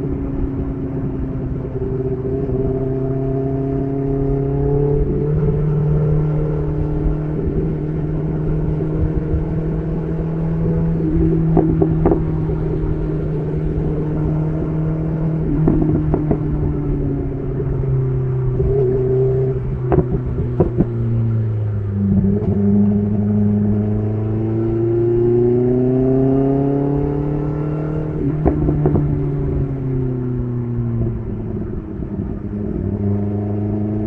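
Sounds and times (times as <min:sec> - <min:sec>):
sport bike engine while riding: 0:00.0 - 0:34.0.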